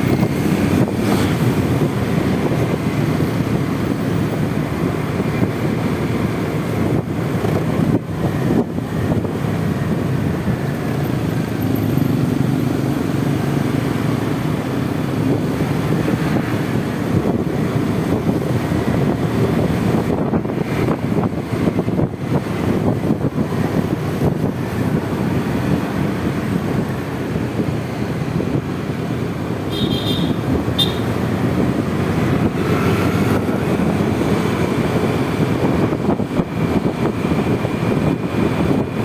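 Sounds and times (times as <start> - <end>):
road noise: 0.0 - 39.0
wind rushing over microphone: 0.0 - 39.0.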